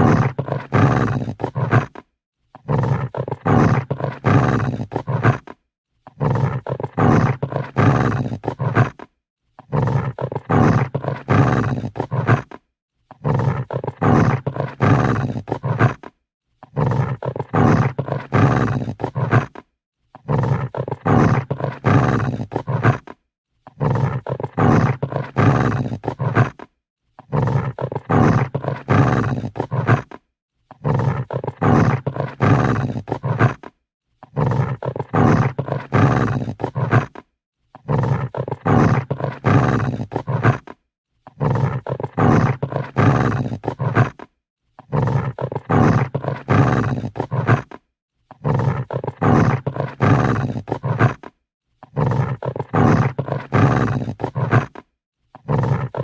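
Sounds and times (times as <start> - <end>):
dog growling: 0.0 - 56.0.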